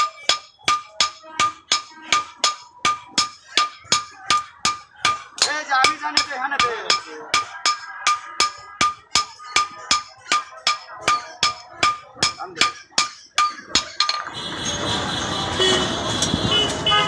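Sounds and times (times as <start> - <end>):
hammer striking metal on anvil: 0.0 - 14.3.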